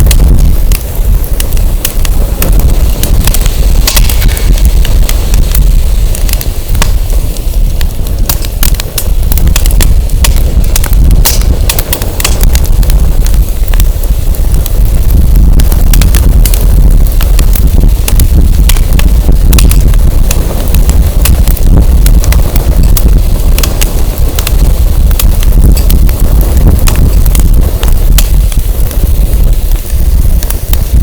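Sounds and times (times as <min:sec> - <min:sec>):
firewood crackling and popping: 0:00.0 - 0:31.0
wind buffeting microphone: 0:00.0 - 0:31.0.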